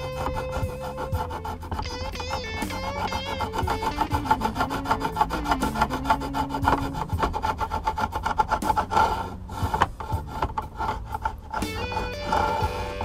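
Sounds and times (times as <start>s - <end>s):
file rasping over fret ends: 0.0s - 13.0s.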